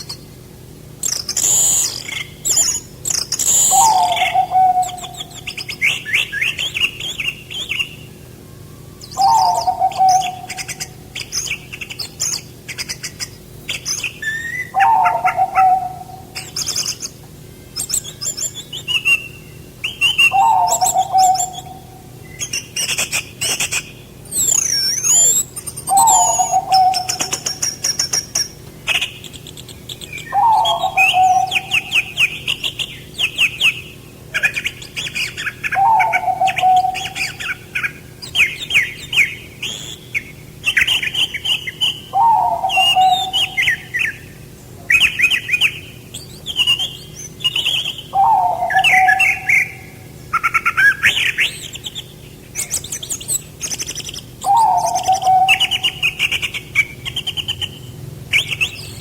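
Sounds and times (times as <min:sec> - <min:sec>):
songbirds chattering and twittering: 0:00.0 - 0:59.0.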